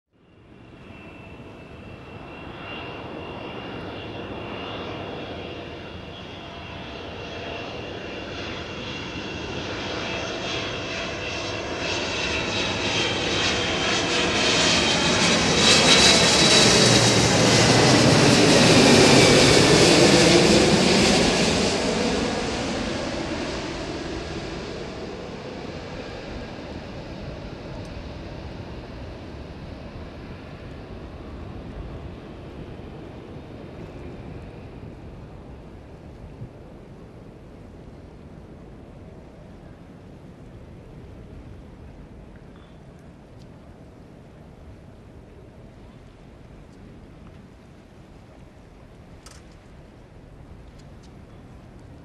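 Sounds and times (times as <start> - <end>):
airliner jet engines passing overhead: 0.2 - 52.0.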